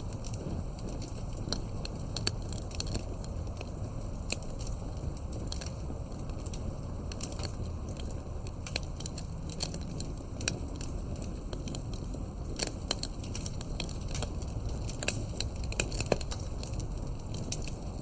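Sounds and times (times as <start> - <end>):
campfire pops and snaps: 0.0 - 18.0
fire low rumble: 0.0 - 18.0.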